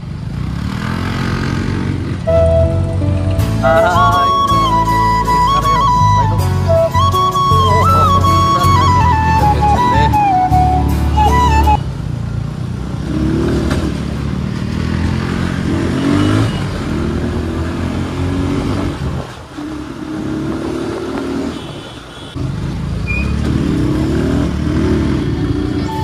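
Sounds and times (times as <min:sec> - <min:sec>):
motorcycle engine accelerating: 0:00.0 - 0:06.8, 0:08.2 - 0:21.4, 0:22.4 - 0:26.0.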